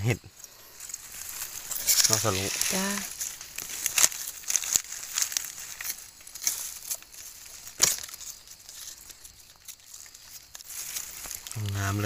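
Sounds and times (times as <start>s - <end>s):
dry leaves crackling and rustling: 0.6s - 12.0s.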